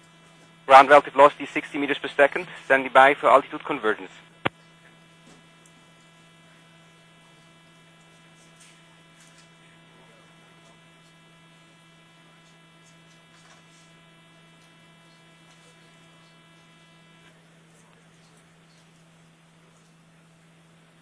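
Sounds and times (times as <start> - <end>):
buzzy electrical hum: 0.0 - 21.0.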